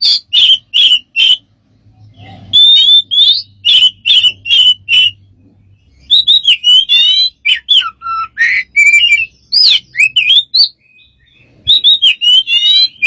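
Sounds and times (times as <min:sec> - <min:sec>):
bird whistling and chirping: 0:00.0 - 0:13.0.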